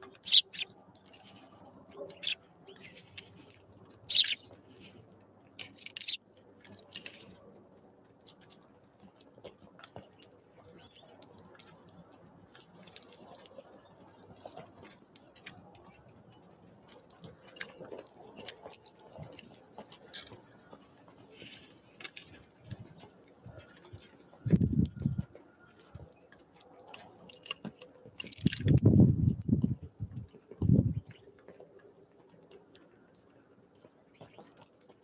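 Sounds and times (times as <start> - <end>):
birds pecking and tapping: 0.0 - 35.0.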